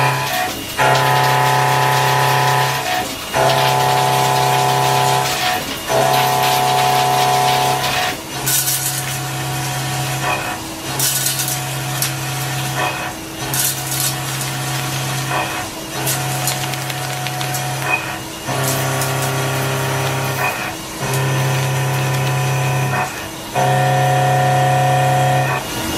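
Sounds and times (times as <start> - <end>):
milling machine hum: 0.0 - 25.9.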